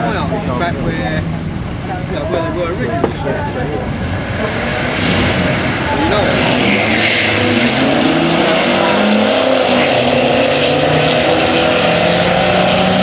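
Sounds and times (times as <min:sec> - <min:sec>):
cars accelerating hard: 0:00.0 - 0:13.0.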